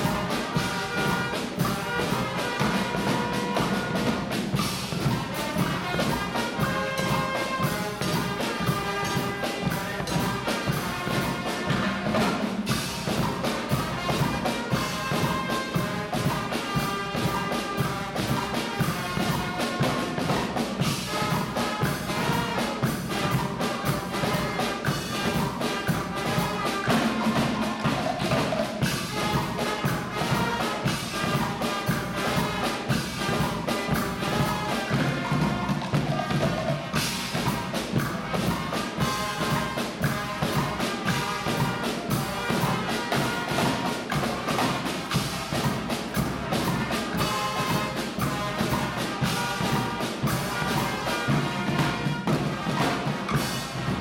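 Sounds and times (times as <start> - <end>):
snare drums: 0.0 - 54.0
trumpets and trombones: 0.0 - 54.0.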